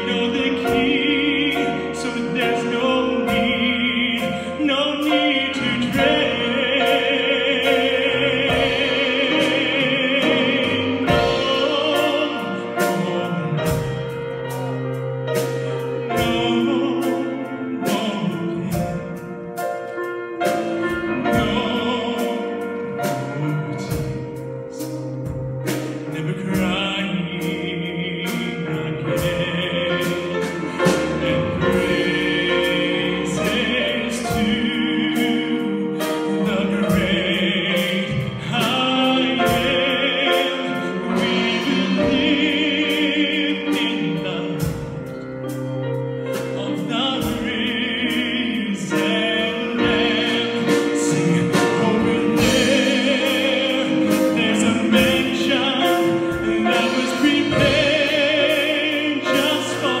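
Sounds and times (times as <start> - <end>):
man singing gospel song: 0.0 - 19.7, 20.3 - 45.2, 46.3 - 60.0
instrumental accompaniment: 0.0 - 60.0.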